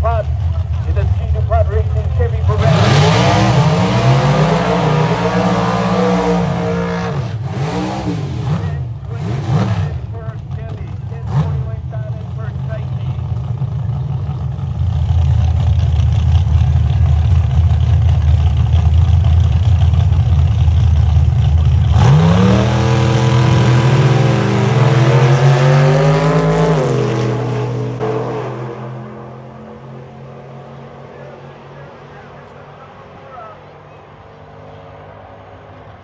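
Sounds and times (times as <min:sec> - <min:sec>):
race car engine revving: 0:00.0 - 0:36.0.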